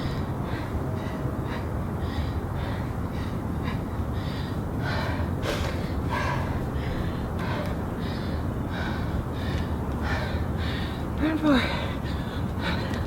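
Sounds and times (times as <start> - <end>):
woman breathing hard: 0.0 - 13.0.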